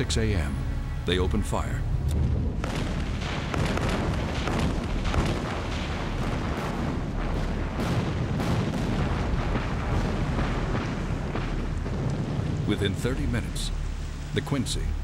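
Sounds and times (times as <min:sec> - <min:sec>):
continuous heavy rumble: 0:00.0 - 0:15.0
naval guns booming: 0:02.0 - 0:14.8.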